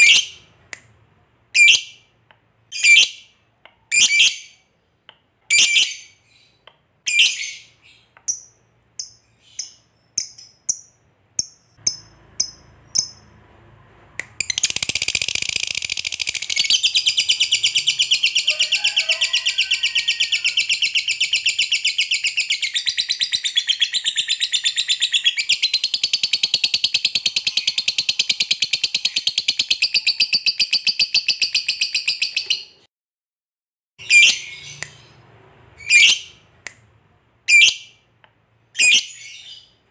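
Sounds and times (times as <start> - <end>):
lovebird chirping and trilling: 0.0 - 0.5, 1.6 - 2.0, 2.7 - 4.6, 5.5 - 13.3, 14.4 - 32.8, 34.0 - 35.2, 35.8 - 36.4, 37.5 - 38.0, 38.8 - 39.8.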